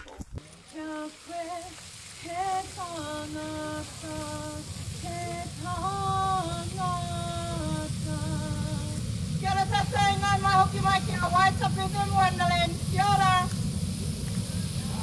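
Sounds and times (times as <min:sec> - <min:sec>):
geyser spray rushing: 0:00.3 - 0:15.0
woman singing unaccompanied: 0:00.7 - 0:13.5.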